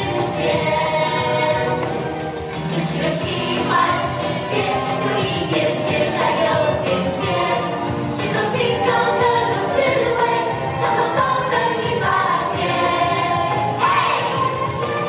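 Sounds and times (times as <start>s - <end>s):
children's pop song with band: 0.0s - 15.0s.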